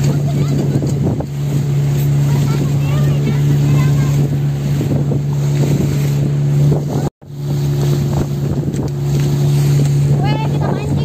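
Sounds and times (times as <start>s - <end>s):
motorboat engine running: 0.0s - 11.0s
water rushing along hull: 0.0s - 11.0s
wind on microphone: 0.0s - 11.0s.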